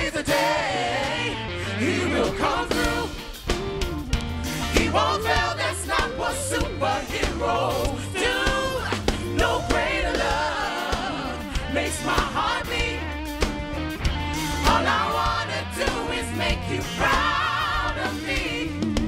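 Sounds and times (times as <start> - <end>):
gospel group singing: 0.0 - 3.6, 4.6 - 19.0
band with bass and drums: 0.0 - 19.0.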